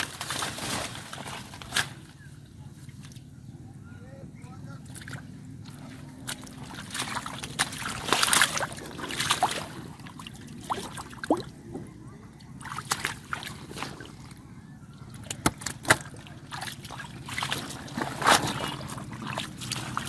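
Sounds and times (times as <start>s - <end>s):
water sloshing and splashing: 0.0s - 2.2s, 4.8s - 20.0s
steady low hum: 0.0s - 20.0s.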